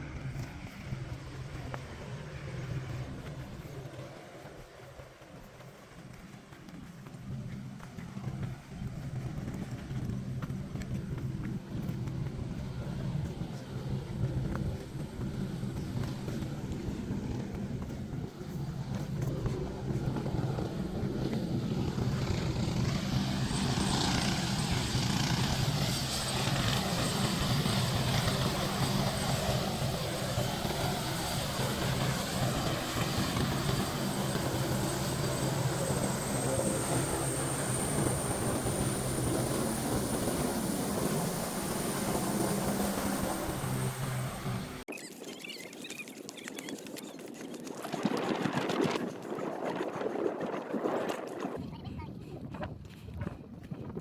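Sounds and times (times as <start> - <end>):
low engine drone: 0.0 - 44.9.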